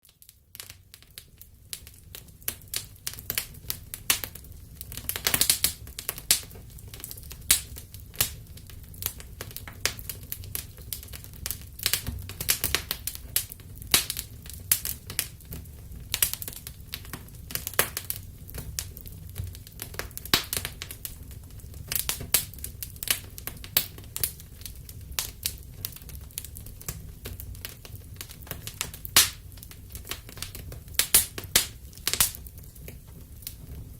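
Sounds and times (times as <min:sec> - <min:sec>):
campfire crackling and popping: 0:00.0 - 0:33.9
low rumble of flames: 0:00.2 - 0:33.9.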